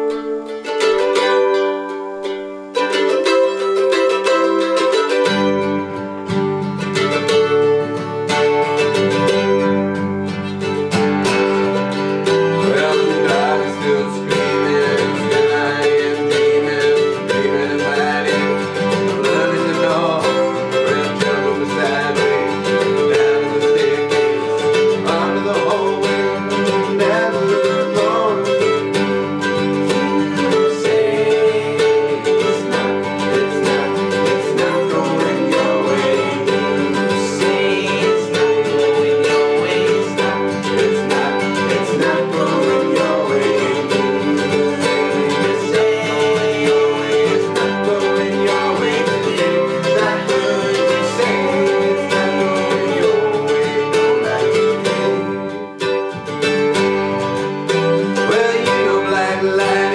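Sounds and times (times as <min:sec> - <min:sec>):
plucked guitar: 0:00.0 - 0:59.9.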